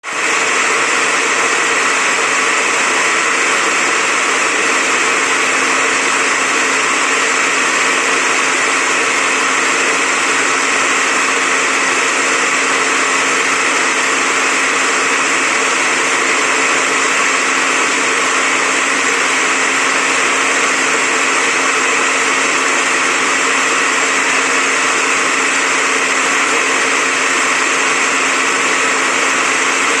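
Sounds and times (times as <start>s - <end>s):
electric juicer motor whirring: 0.0s - 30.0s.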